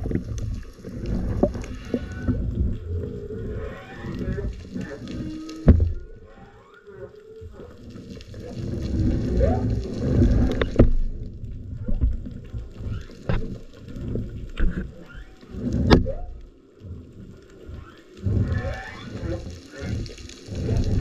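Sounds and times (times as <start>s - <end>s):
muffled underwater rush: 0.0s - 21.0s.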